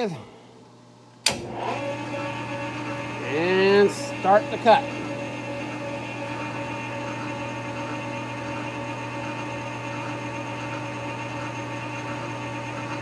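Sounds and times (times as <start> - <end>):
metal lathe cutting steel: 1.6 - 13.0.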